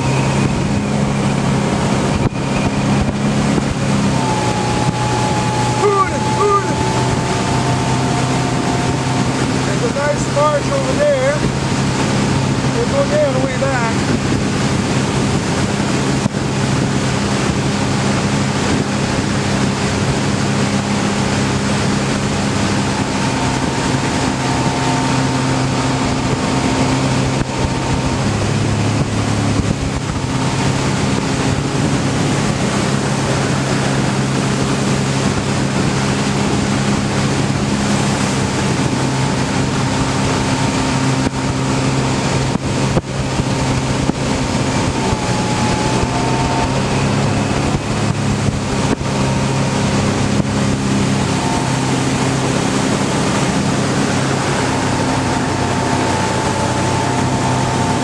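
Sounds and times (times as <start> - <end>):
outboard motor running fast: 0.0 - 58.0
wind and water rush: 0.0 - 58.0.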